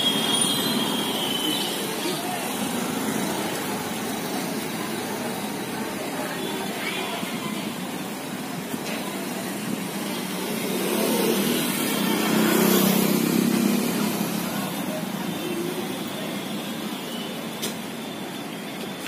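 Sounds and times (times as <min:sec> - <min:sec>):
steady traffic noise: 0:00.0 - 0:19.0.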